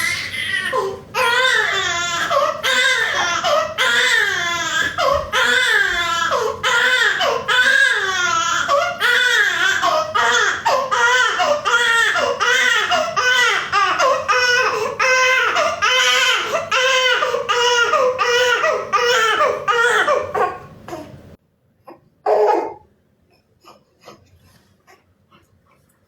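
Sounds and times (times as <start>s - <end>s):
baby crying: 0.0s - 21.1s, 21.9s - 22.8s.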